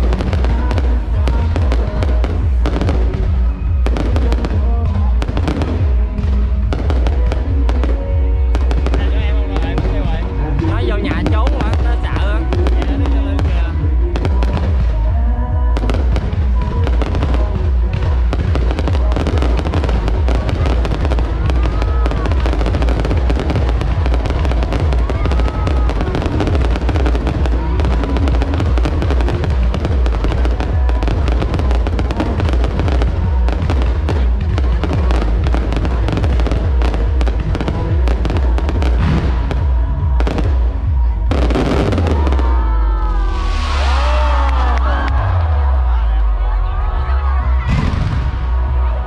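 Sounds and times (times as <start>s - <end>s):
fireworks crackling and booming: 0.0s - 46.9s, 47.5s - 49.0s
music playing: 0.0s - 49.0s.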